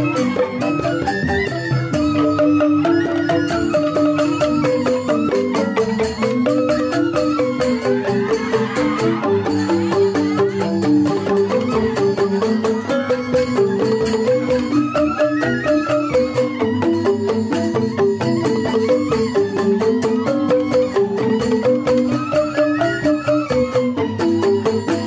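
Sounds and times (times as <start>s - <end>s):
bamboo flute melody: 0.0s - 25.0s
bamboo xylophones struck with mallets: 0.0s - 25.0s.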